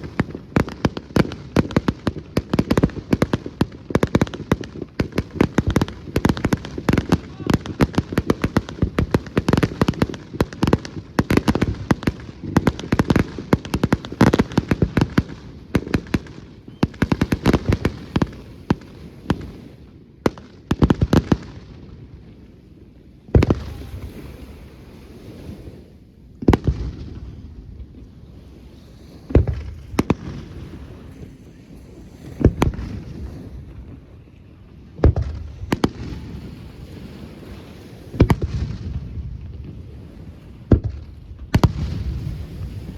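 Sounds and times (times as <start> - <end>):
fireworks bursts and crackles: 0.0 - 25.8, 26.4 - 42.9.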